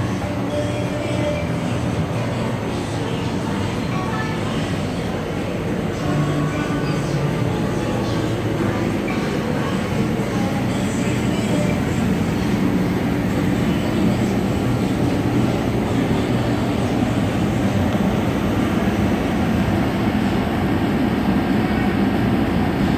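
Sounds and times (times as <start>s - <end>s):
low mechanical rumble: 0.0s - 22.9s.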